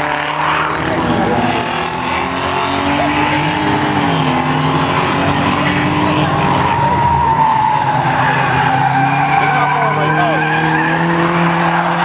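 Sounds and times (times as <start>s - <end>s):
stock car engines running hard: 0.0s - 12.0s
long tyre squeal: 0.3s - 12.0s.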